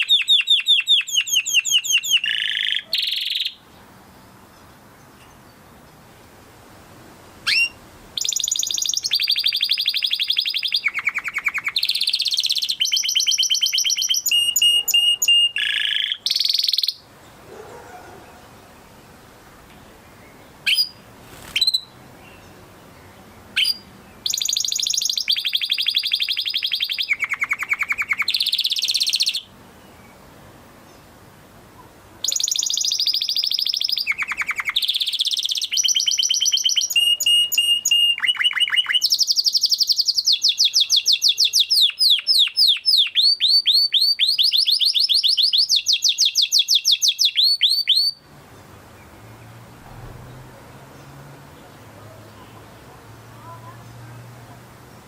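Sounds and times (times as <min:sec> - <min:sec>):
canary singing trills: 0:00.0 - 0:05.7, 0:07.4 - 0:19.2, 0:19.9 - 0:30.2, 0:31.8 - 0:54.0.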